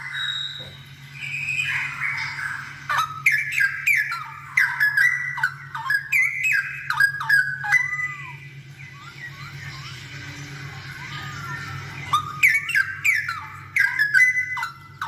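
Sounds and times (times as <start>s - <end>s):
bird singing whistled notes: 0.0s - 9.7s, 12.0s - 15.0s.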